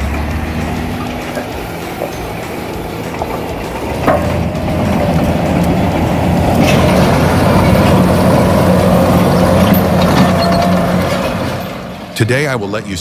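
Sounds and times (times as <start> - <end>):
heavy truck engine droning: 0.0 - 13.0.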